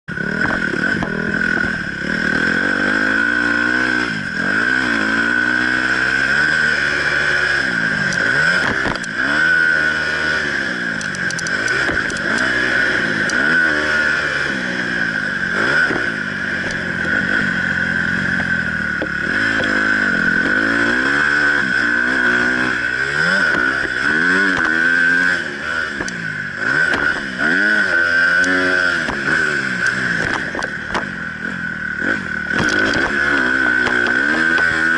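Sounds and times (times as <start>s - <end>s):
motocross bike engine revving: 0.1s - 34.9s.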